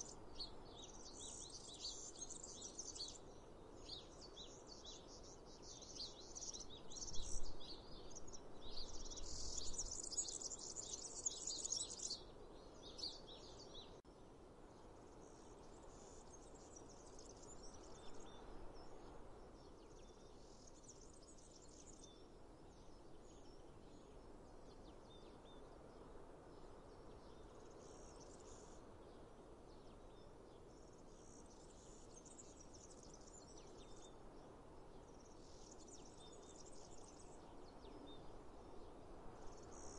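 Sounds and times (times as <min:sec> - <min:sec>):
faint outdoor background noise: 0:00.0 - 0:39.9.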